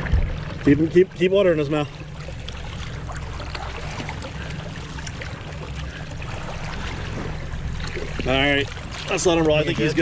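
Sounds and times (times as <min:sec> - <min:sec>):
boat engine droning: 0:00.0 - 0:10.0
water splashing along hull: 0:00.0 - 0:10.0.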